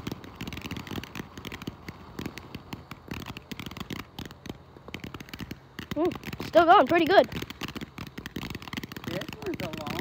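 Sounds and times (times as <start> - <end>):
firework spraying and crackling: 0.0 - 10.0.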